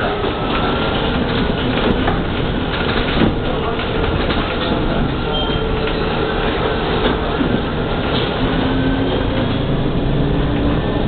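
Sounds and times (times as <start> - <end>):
trolleybus road and body noise: 0.0 - 11.0.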